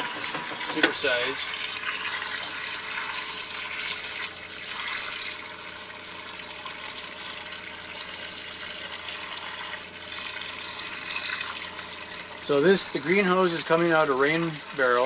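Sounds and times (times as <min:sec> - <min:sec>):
water pouring into a tub: 0:00.0 - 0:15.0.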